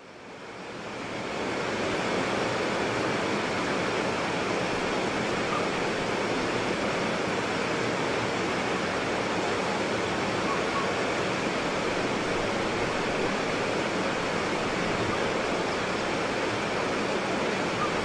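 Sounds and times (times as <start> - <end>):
white water rapids rushing: 0.1 - 18.0.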